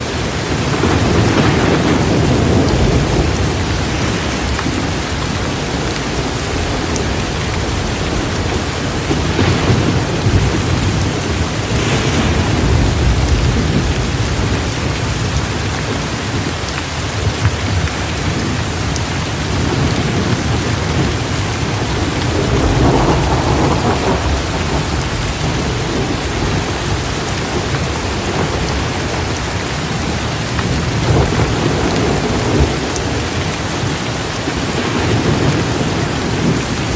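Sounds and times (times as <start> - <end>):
heavy rain pouring: 0.0 - 36.9
rolling thunder: 0.0 - 36.9.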